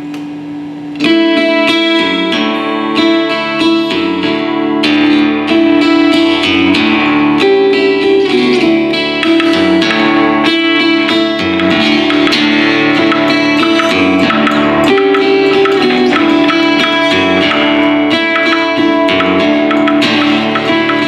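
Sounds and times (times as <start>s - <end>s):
guitar picking: 0.0s - 21.0s.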